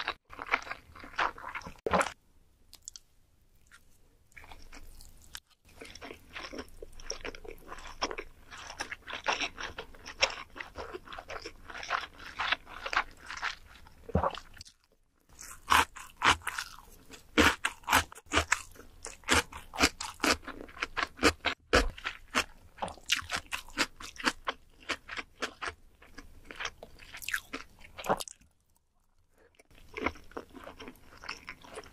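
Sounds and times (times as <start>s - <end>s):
person chewing food: 0.0s - 31.9s.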